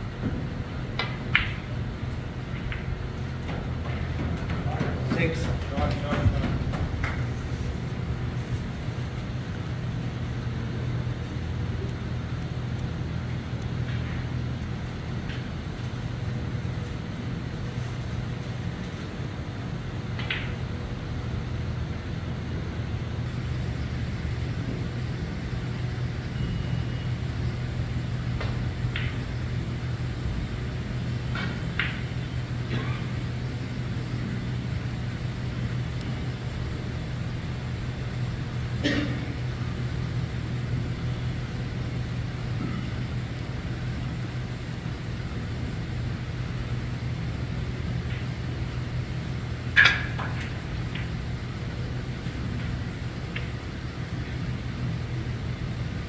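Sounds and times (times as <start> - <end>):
low room hum: 0.0 - 56.0.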